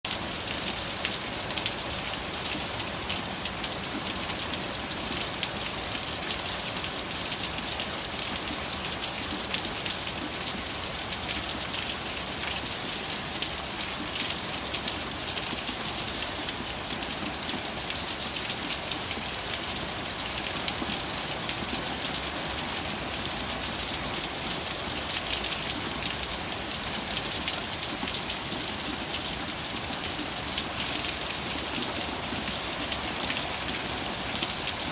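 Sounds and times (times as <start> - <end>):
steady rain pattering: 0.0 - 34.9.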